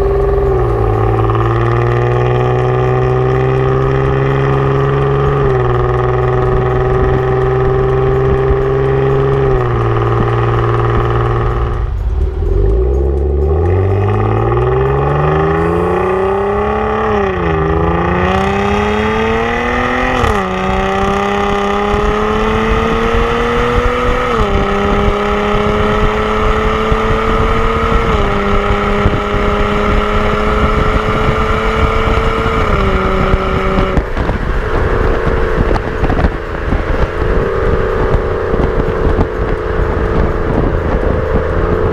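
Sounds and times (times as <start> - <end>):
car engine accelerating: 0.0 - 41.9
road noise: 0.0 - 41.9.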